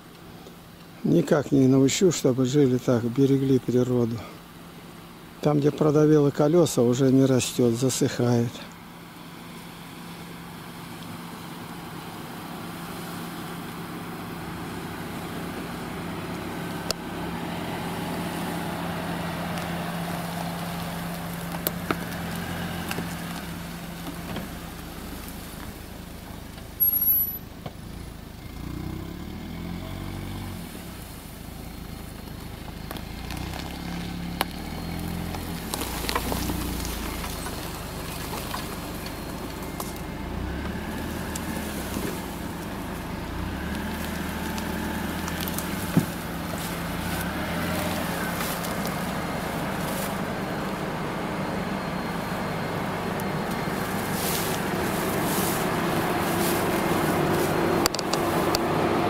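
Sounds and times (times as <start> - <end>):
car driving through tall grass: 0.0 - 59.0
car engine running: 0.0 - 59.0.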